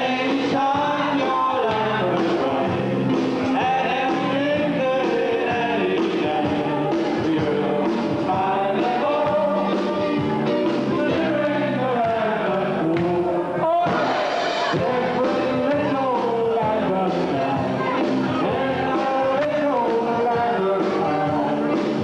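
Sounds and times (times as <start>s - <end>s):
person singing lead vocals: 0.0s - 22.0s
rock and roll band playing: 0.0s - 22.0s.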